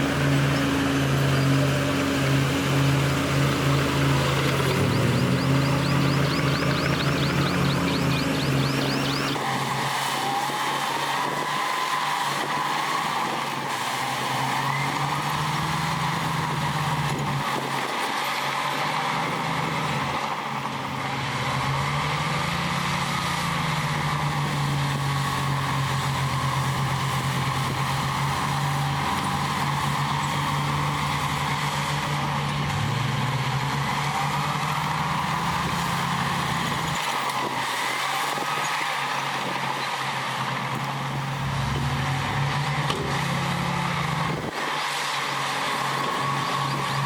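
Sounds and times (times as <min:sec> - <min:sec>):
heavy diesel engine working: 0:00.0 - 0:47.0.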